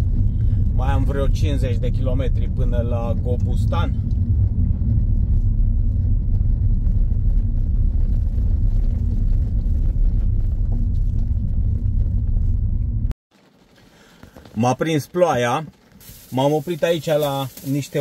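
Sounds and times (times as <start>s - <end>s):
car interior driving rumble: 0.0s - 18.0s.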